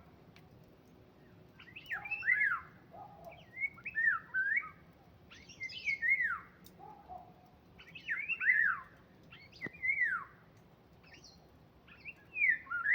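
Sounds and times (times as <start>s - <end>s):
songbird singing: 1.1s - 12.9s.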